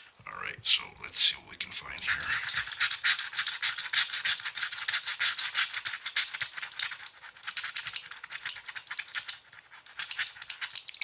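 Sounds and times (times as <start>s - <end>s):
scratch-off coating being rubbed: 1.9s - 11.0s.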